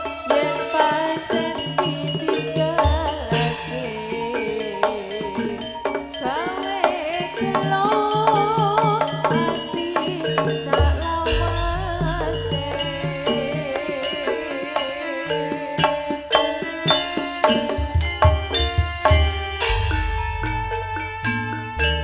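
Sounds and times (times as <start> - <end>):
drums and metal percussion: 0.0 - 22.0
wavering melody line: 0.0 - 22.0.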